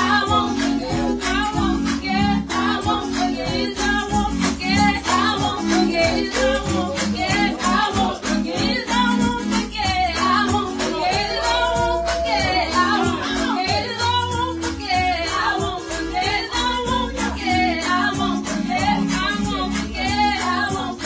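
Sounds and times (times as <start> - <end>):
instrumental backing with beat: 0.0 - 21.0
women singing gospel: 0.0 - 21.0.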